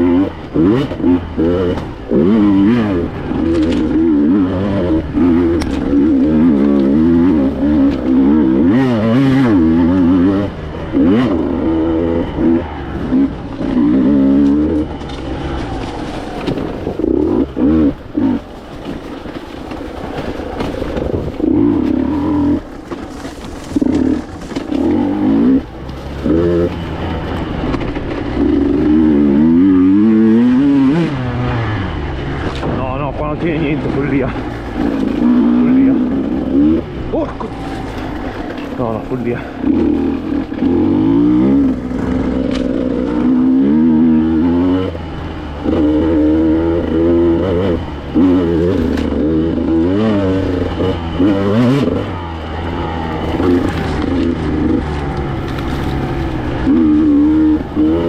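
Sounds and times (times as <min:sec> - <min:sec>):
two-stroke motorcycle revving: 0:00.0 - 0:58.0.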